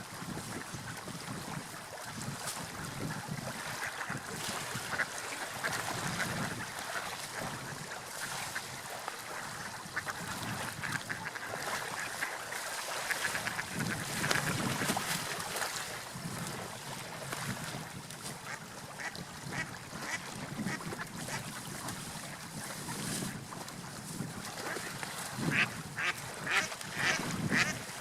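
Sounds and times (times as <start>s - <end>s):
sea waves washing: 1.3s - 28.0s.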